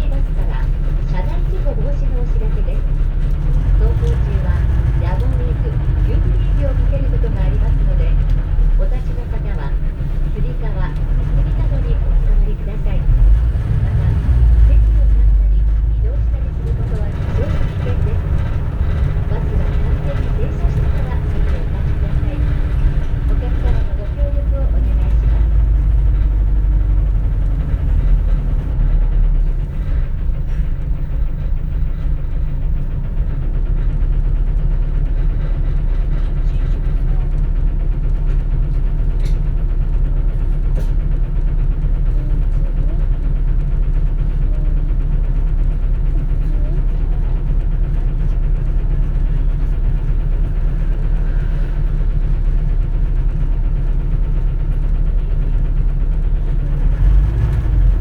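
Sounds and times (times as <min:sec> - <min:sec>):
bus engine drone: 0:00.0 - 0:58.0
road rumble: 0:00.0 - 0:58.0.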